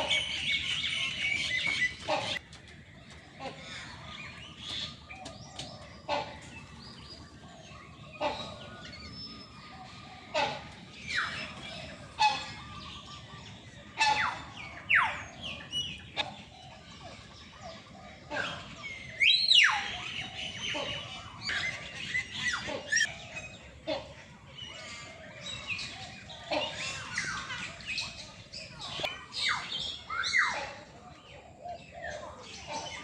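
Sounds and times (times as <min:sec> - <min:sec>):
caged birds chirping: 0:00.0 - 0:33.0.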